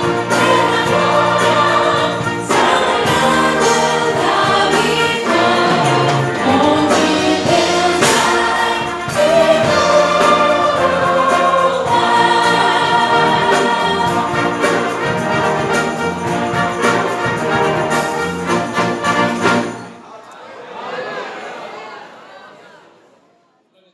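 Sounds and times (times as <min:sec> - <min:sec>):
band accompanying: 0:00.0 - 0:20.0
choir singing a hymn: 0:00.0 - 0:20.0.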